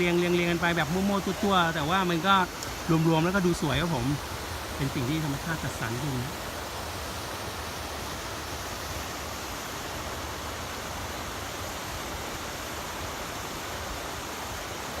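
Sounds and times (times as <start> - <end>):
waterfall rushing over boulders: 0.0 - 15.0.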